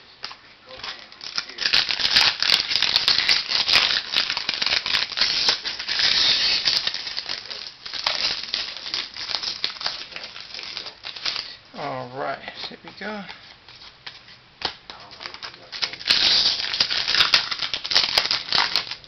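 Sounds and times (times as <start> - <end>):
foil wrapper crinkling: 0.2 - 11.6, 12.9 - 19.0.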